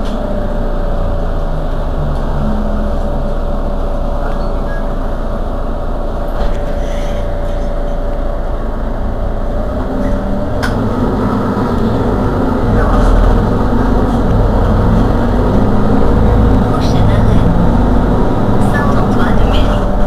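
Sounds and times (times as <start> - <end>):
bus engine idling: 0.0 - 20.0
constant whine: 0.0 - 20.0.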